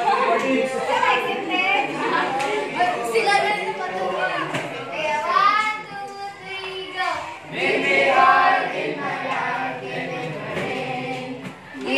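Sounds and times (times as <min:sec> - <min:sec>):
girls singing together: 0:00.0 - 0:11.9.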